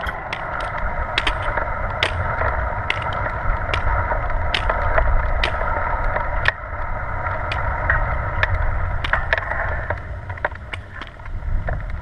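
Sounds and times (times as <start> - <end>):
pole tips clicking on pavement: 0.0 - 12.0
wheelchair wheels rolling on asphalt: 0.0 - 12.0.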